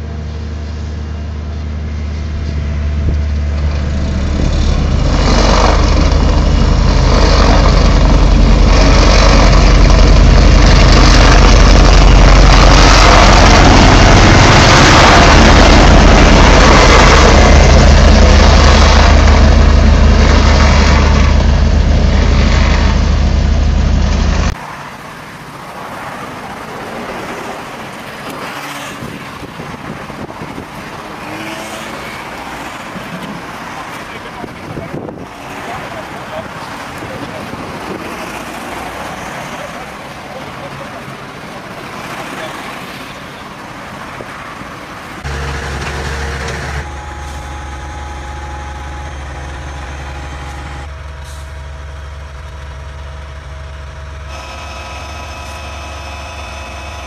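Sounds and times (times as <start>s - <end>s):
diesel engine droning: 0.0s - 57.0s
street traffic noise: 0.0s - 57.0s
machinery noise: 0.1s - 57.0s.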